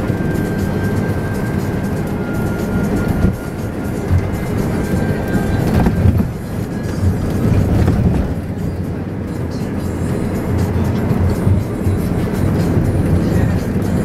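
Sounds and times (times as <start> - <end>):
music playing: 0.0 - 14.0
road and engine rumble: 0.0 - 14.0.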